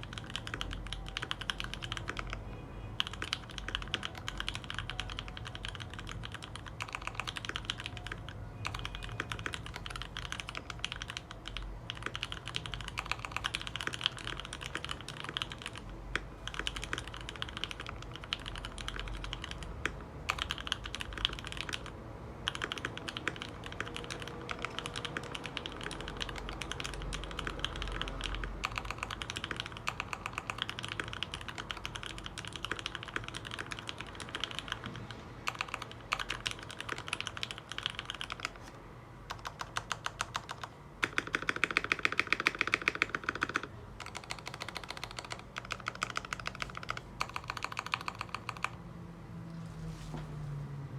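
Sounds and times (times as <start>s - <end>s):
typing on mechanical keyboard: 0.0s - 48.8s.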